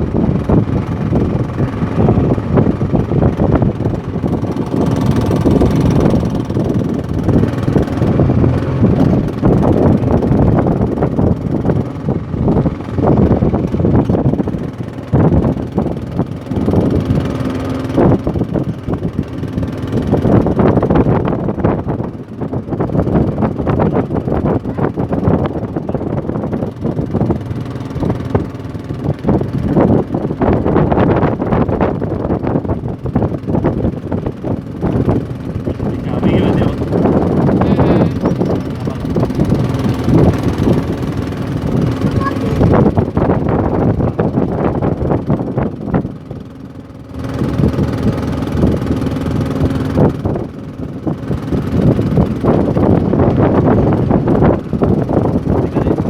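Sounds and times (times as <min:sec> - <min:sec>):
boat engine running: 0:00.0 - 0:56.0
wind buffeting microphone: 0:00.0 - 0:56.0.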